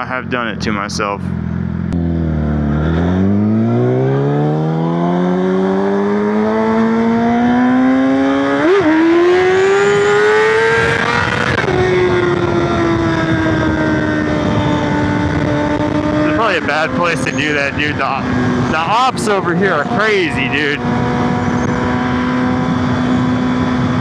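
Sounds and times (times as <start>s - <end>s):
sport bike engine accelerating: 1.2s - 24.0s.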